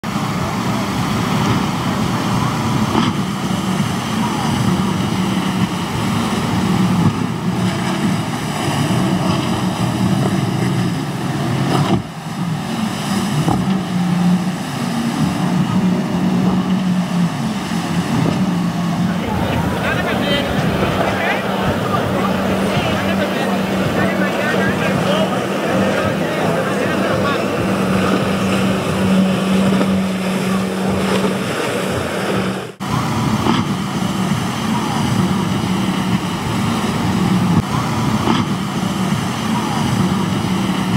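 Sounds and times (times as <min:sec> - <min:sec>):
motorboat engines running: 0:00.0 - 0:40.9
rushing water: 0:00.0 - 0:40.9
wind: 0:00.0 - 0:40.9.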